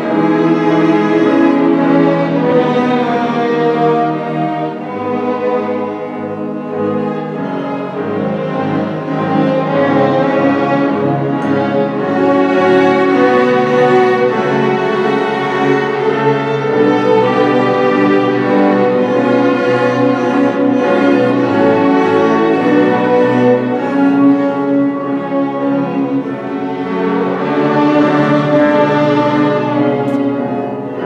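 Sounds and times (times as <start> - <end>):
string ensemble playing: 0.0 - 31.0.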